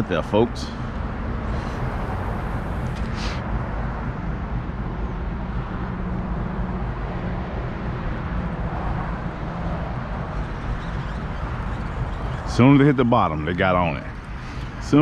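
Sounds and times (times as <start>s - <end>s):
distant motor rumbling: 0.0s - 15.0s.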